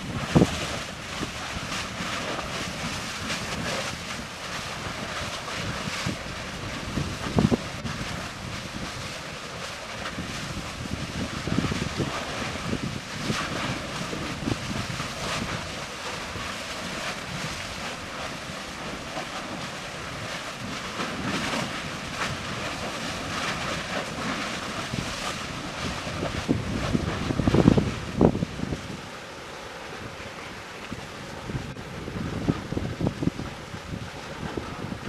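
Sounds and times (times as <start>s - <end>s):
wind buffeting microphone: 0.0s - 29.2s, 29.9s - 35.0s
lava lake churning: 0.0s - 35.0s.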